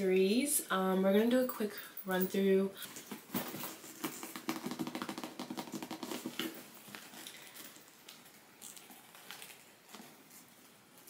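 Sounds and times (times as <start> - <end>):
rustling of handled items: 1.6 - 11.0.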